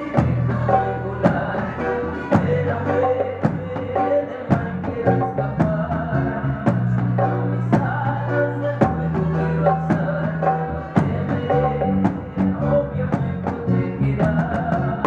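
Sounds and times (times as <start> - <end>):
bass line: 0.0 - 15.0
keyboard chords: 0.0 - 15.0
reggae band playing: 0.0 - 15.0
drum hits: 0.2 - 15.0.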